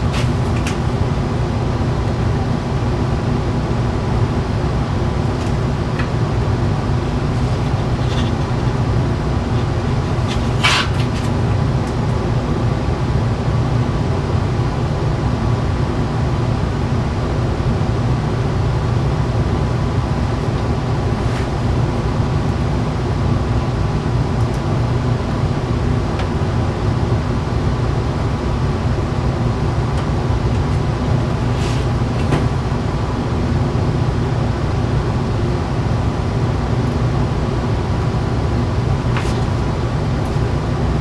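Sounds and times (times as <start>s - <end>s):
low machinery drone: 0.0s - 41.0s.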